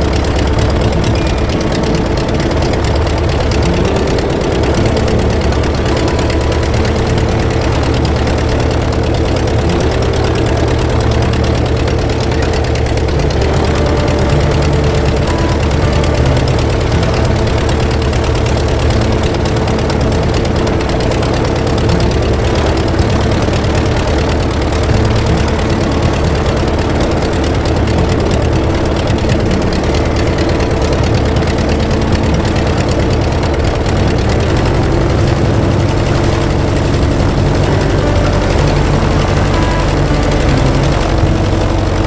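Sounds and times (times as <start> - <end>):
aircraft engine idling: 0.0 - 42.0.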